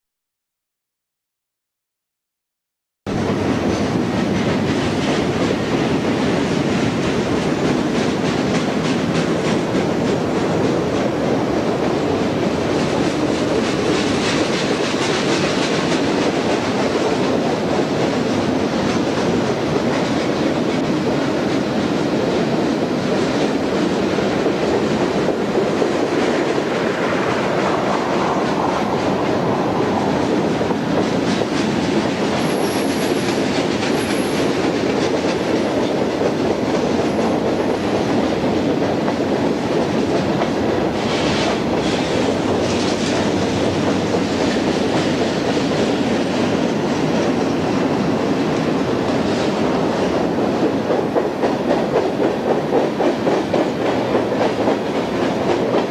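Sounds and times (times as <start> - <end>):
train wheels rumbling: 3.1 - 55.9.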